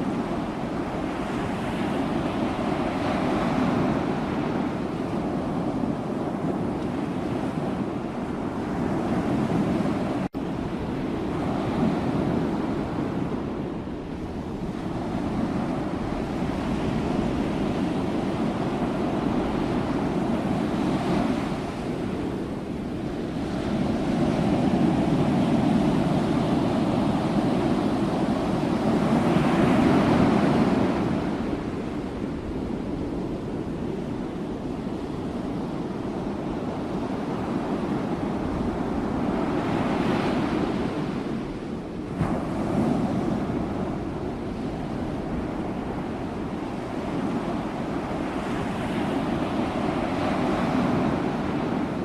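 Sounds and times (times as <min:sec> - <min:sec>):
sea waves washing onto shore: 0:00.0 - 0:52.0.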